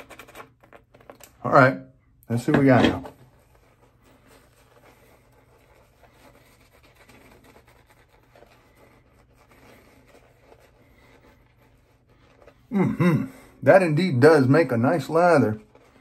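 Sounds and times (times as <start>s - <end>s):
shaving brush scratching on face: 0.0s - 1.2s, 3.1s - 12.8s, 13.4s - 16.0s.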